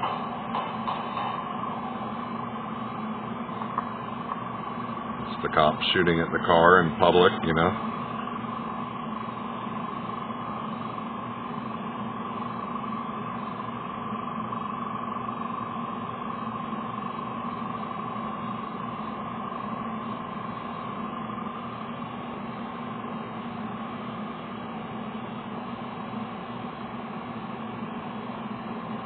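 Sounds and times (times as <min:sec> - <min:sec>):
steady hiss: 0:00.0 - 0:29.0
two-tone hum: 0:00.0 - 0:29.0.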